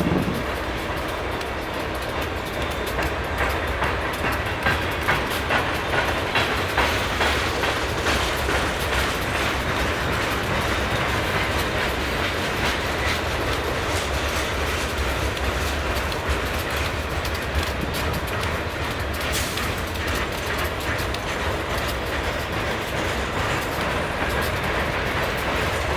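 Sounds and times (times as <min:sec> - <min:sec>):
freight train rumble: 0:00.0 - 0:25.9
train wheels clacking over rail joints: 0:00.0 - 0:25.9.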